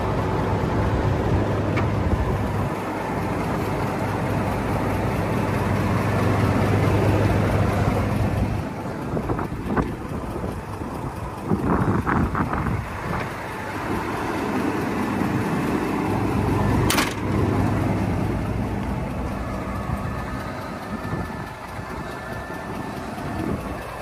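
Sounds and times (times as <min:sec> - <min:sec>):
truck idling: 0:00.0 - 0:24.0.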